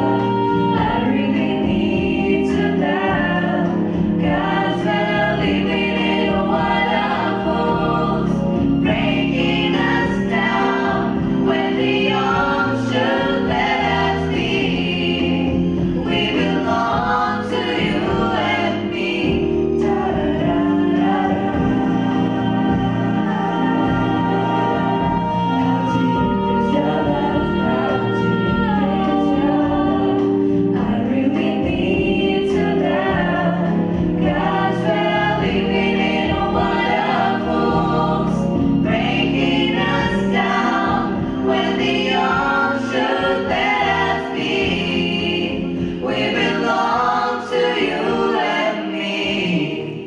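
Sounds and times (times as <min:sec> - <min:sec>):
group singing slow pop song: 0:00.0 - 0:50.0.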